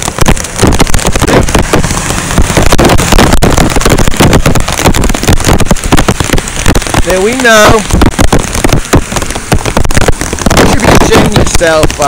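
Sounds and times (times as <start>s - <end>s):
rain falling: 0.0s - 12.0s
vehicles splashing through floodwater: 0.0s - 12.0s.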